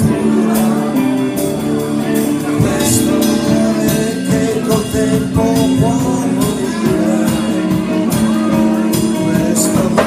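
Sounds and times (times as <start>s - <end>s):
drums: 0.0s - 10.0s
electric guitar: 0.0s - 10.0s
person singing: 0.0s - 10.0s.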